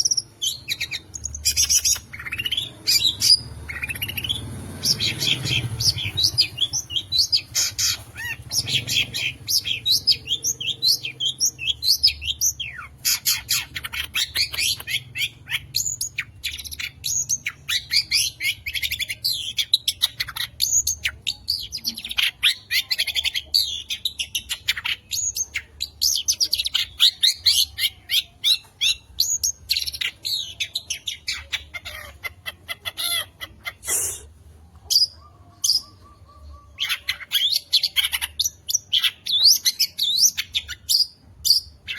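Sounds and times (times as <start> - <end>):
bird singing quick chirps: 0.0 - 41.9.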